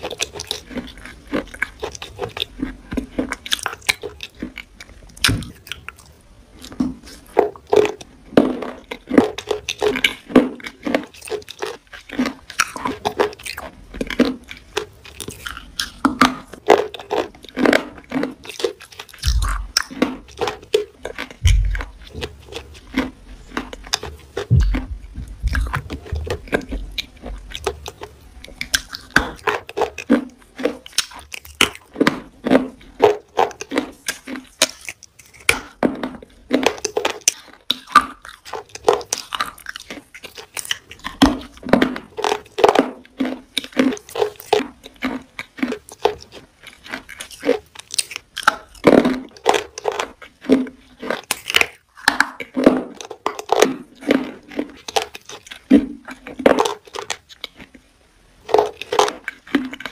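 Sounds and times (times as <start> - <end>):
person chewing juicy plums: 0.0 - 59.9.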